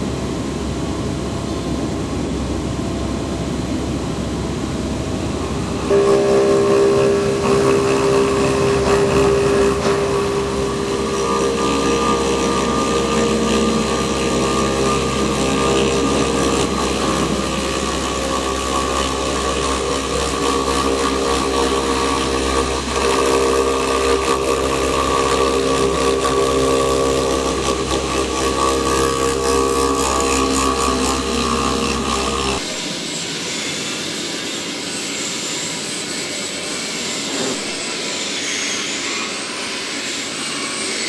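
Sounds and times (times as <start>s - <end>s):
machine spindle milling stone: 5.8s - 41.0s.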